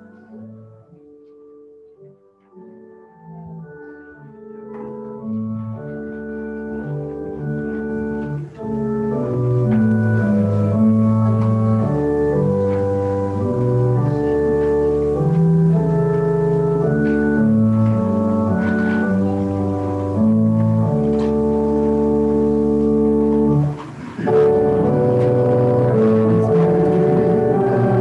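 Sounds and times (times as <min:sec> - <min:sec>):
church organ playing a hymn: 0:00.0 - 0:28.0.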